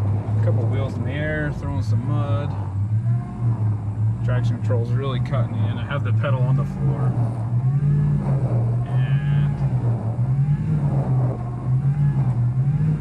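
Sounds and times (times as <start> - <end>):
high whine: 0.0 - 13.0
truck engine at full throttle: 0.0 - 13.0.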